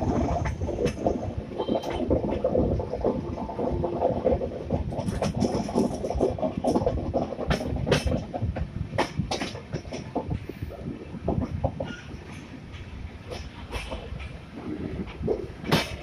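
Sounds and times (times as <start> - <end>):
train wheels rumbling on track: 0.0 - 16.0
wheels clacking over rail joints: 0.0 - 16.0.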